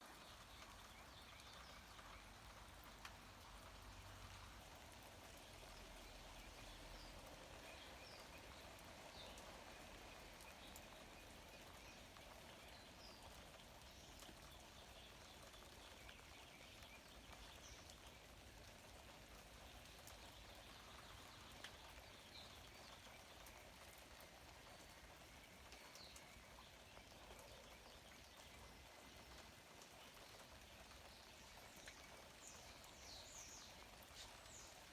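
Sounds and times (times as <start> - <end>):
light rain on leaves: 0.0 - 34.9.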